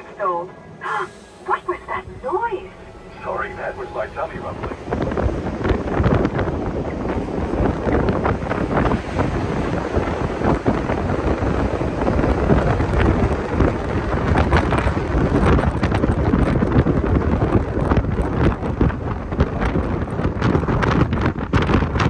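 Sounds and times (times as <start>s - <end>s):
bus road noise: 0.0s - 22.0s
wind buffeting microphone: 0.9s - 22.0s.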